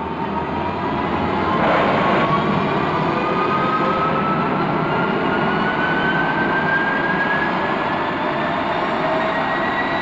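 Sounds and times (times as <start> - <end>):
jet engine whine climbing in pitch: 0.0 - 10.0.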